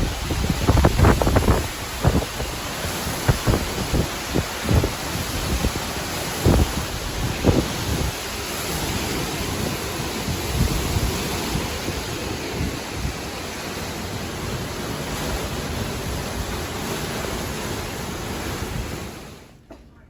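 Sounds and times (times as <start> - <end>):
strong wind rushing: 0.0 - 19.4
wind buffeting microphone: 0.0 - 19.4.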